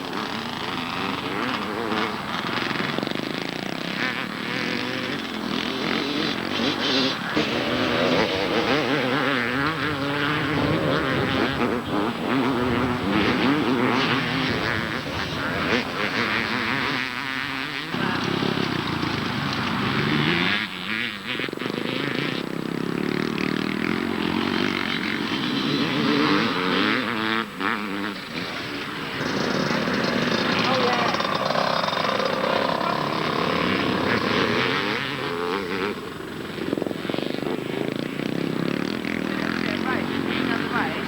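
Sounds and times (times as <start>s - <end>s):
motocross bikes racing: 0.0s - 41.0s.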